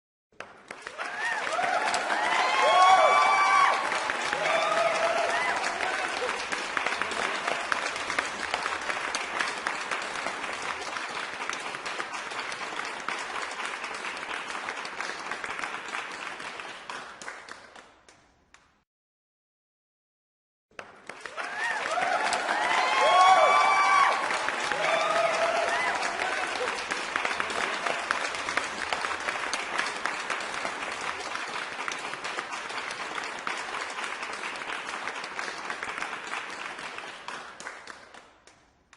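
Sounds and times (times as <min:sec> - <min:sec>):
crowd applauding and cheering: 0:00.3 - 0:18.1, 0:20.7 - 0:38.6.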